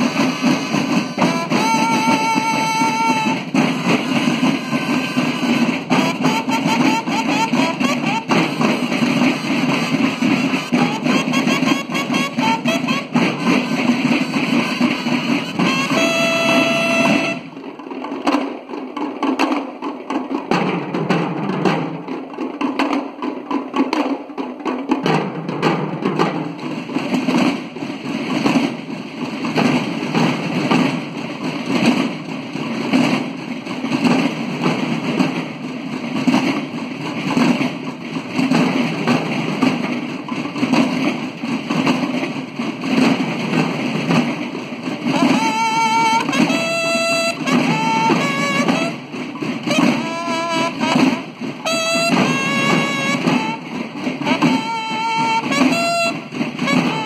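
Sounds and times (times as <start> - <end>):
marching drums cadence: 0.0 - 57.0.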